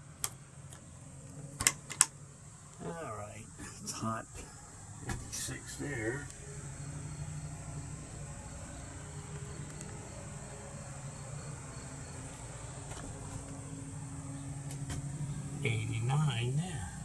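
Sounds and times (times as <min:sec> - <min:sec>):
insects droning: 0:00.0 - 0:17.0
low steady hum: 0:00.0 - 0:17.0.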